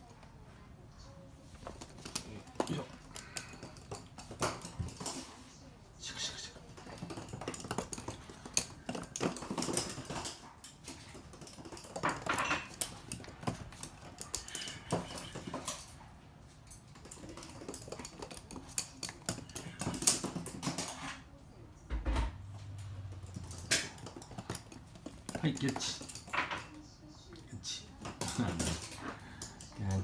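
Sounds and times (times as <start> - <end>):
dog claws clicking on hard floor: 1.6 - 5.4, 6.5 - 21.3, 22.0 - 26.8, 27.4 - 30.0.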